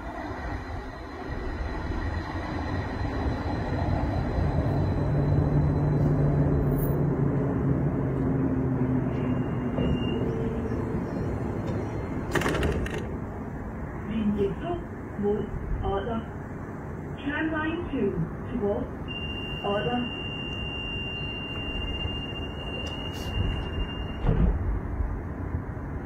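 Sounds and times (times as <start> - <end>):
tram humming on track: 0.0 - 26.0.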